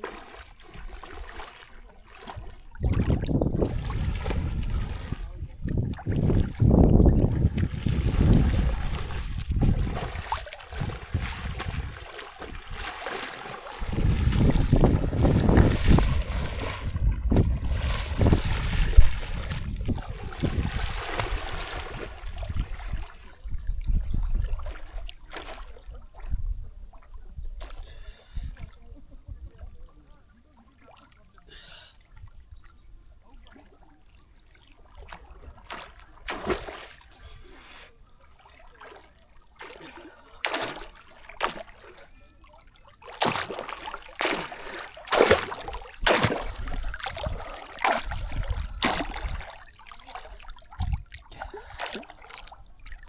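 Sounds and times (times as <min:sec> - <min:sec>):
water splashing and trickling: 0:00.0 - 0:53.0.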